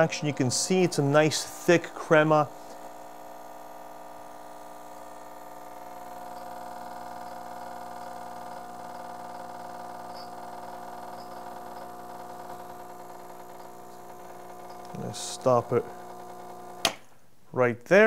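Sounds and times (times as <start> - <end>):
espresso machine pump humming: 0.0 - 17.1.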